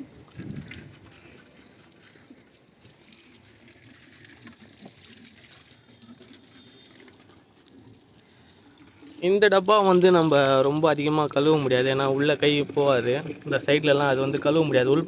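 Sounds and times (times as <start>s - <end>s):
faint water running from tap: 0.3s - 14.9s.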